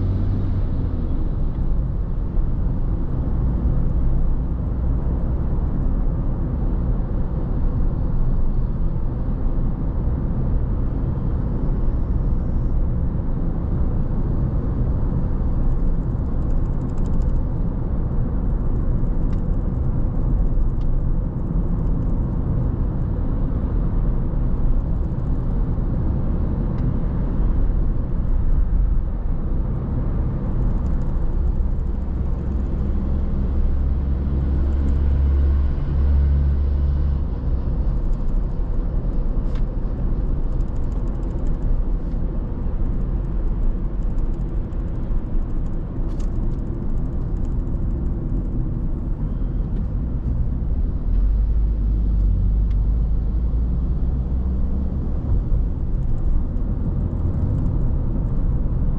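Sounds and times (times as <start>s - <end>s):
car driving on road: 0.0s - 58.9s.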